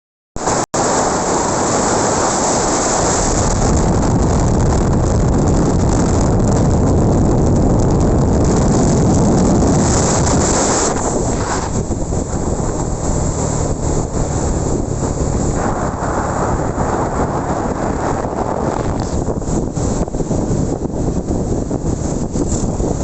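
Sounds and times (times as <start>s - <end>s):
wind buffeting microphone: 0.4s - 23.0s.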